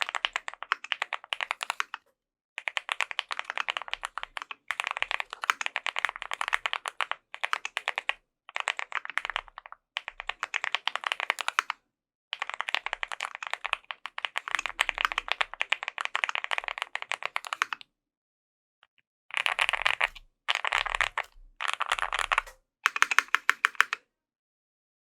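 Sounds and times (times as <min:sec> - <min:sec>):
fast typing on mechanical keyboard: 0:00.0 - 0:02.0, 0:02.6 - 0:11.8, 0:12.4 - 0:17.8, 0:19.3 - 0:24.0.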